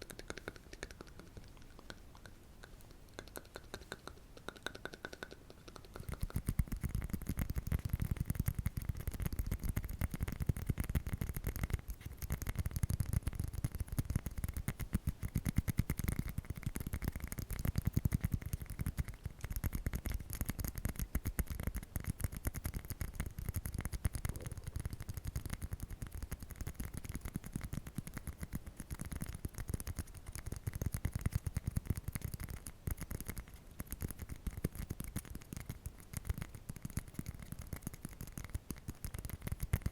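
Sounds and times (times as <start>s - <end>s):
fast tapping on an object: 0.0s - 39.9s.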